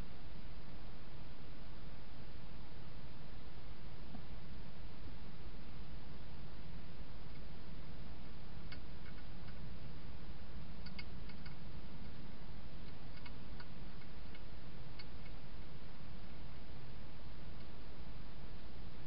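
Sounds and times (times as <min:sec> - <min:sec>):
microphone hiss: 0:00.0 - 0:19.0.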